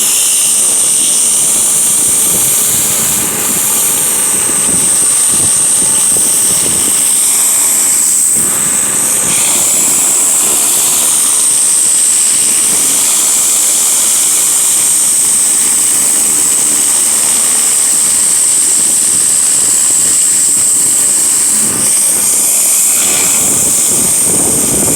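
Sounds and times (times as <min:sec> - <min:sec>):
pressure washer motor: 0:00.0 - 0:24.9
pressure washer water jet hissing: 0:00.0 - 0:24.9.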